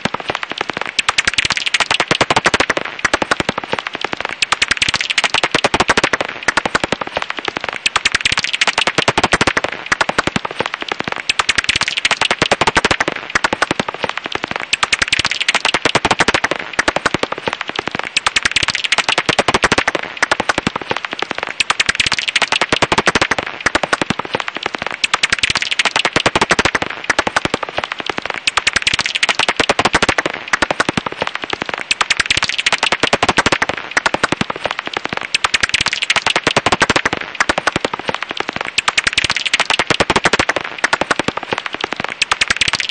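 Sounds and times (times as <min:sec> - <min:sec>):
bat echolocation clicks: 0:00.0 - 0:42.9.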